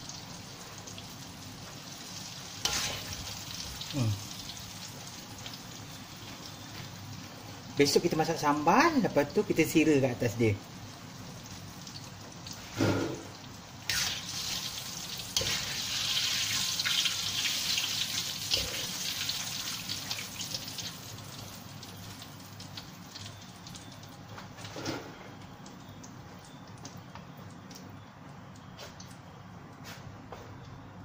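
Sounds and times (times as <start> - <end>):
fish deep-frying in oil: 0.0 - 28.8.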